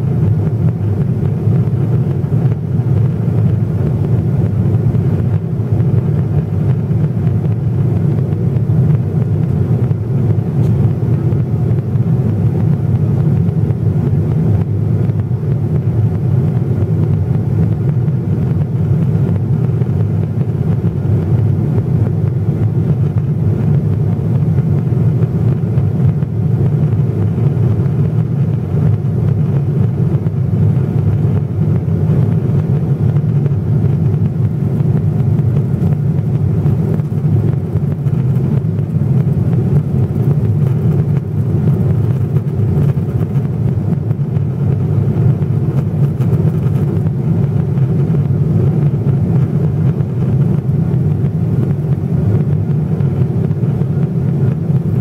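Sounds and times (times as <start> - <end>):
airplane cabin roar: 0.0 - 55.0.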